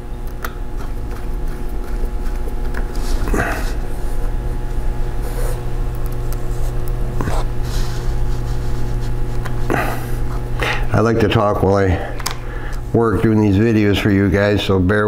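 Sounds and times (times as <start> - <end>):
low hum: 0.0 - 14.4.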